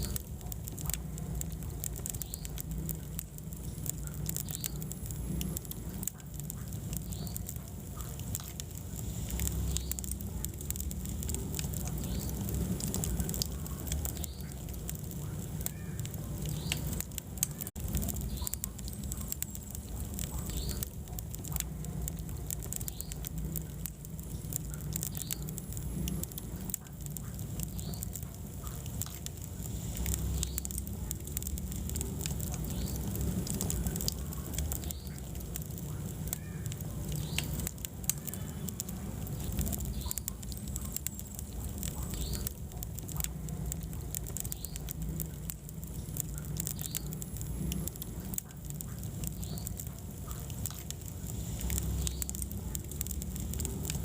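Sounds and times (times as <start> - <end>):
low rumble of burning: 0.0 - 54.0
wood fire crackling and popping: 0.0 - 54.0.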